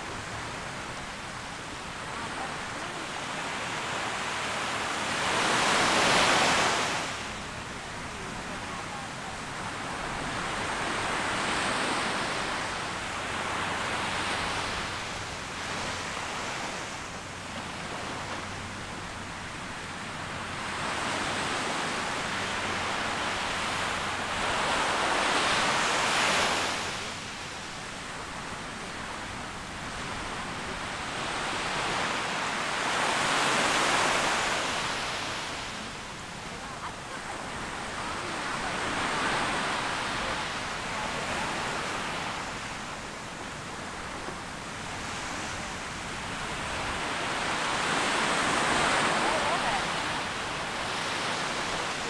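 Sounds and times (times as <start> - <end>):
waves washing up a beach: 0.0 - 52.0.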